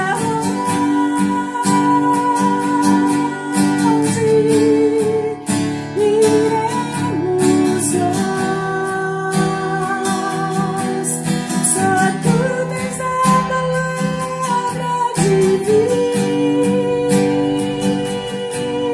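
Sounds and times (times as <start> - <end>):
strummed acoustic guitar: 0.0 - 18.9
woman singing: 0.0 - 18.9.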